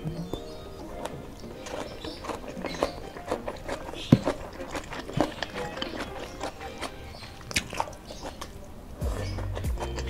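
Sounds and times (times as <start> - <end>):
fingers gathering rice: 0.0 - 10.0
wet chewing mouth sounds: 0.0 - 10.0.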